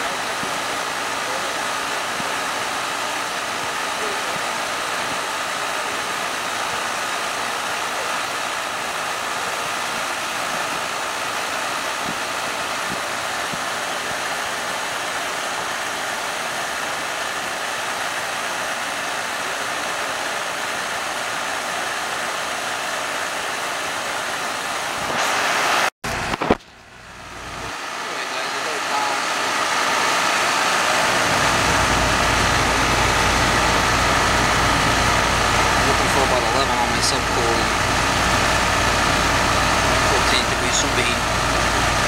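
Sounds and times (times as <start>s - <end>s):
air conditioner fan running: 0.0s - 42.0s.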